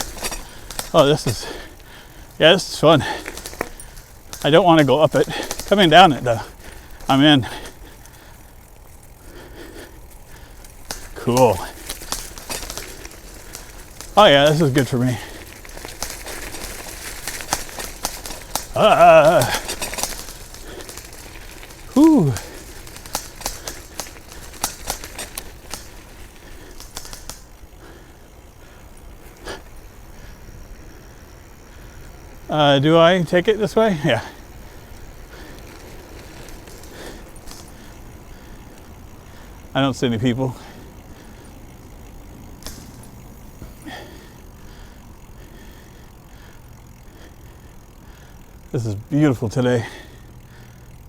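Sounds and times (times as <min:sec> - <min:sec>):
bicycle clicking and rattling: 0:00.0 - 0:51.0.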